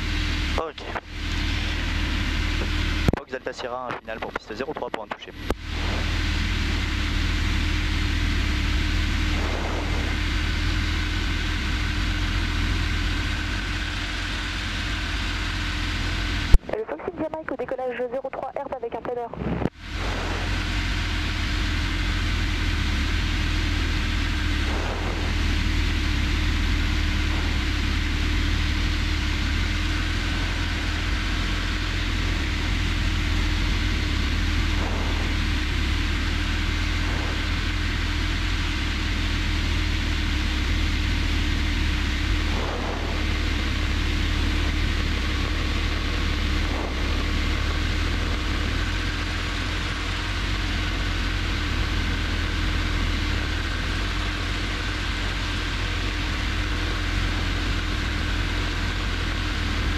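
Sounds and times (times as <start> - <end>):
aircraft engine droning: 0.0 - 59.9.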